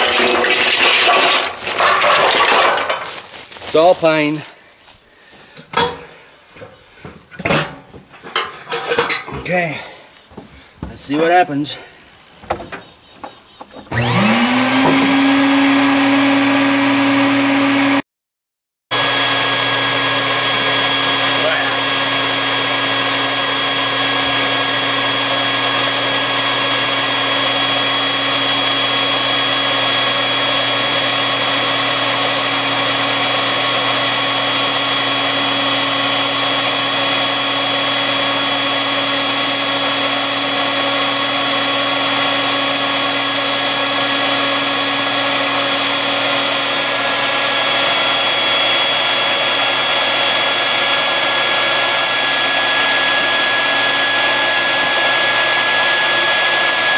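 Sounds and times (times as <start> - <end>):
electric blower running: 0.0 - 4.5, 13.8 - 18.0, 18.9 - 56.9.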